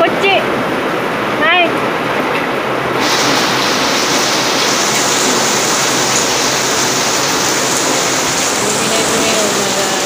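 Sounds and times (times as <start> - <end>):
heavy rain falling: 0.6 - 10.0.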